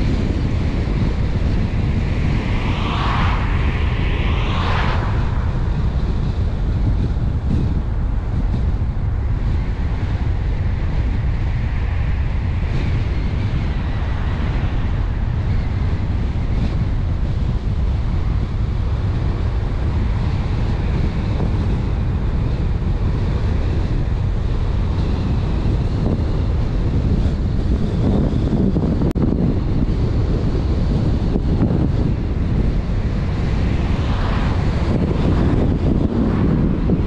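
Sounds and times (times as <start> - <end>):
car road noise: 0.0 - 37.0
wind rushing over microphone: 0.0 - 37.0.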